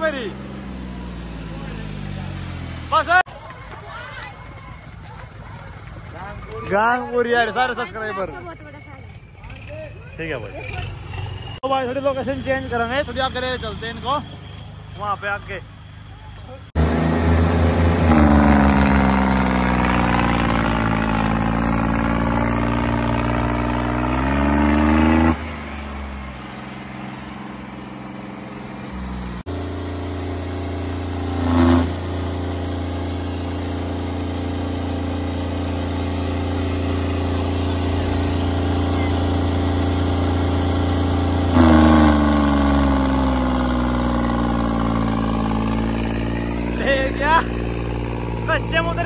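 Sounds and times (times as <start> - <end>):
tractor engines labouring: 0.0 - 49.0.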